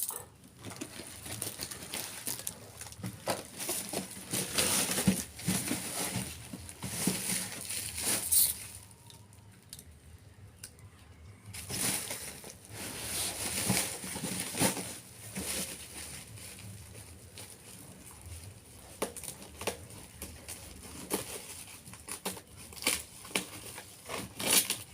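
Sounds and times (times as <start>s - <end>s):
packaging rustling and crinkling: 0.0s - 9.8s, 11.5s - 24.9s.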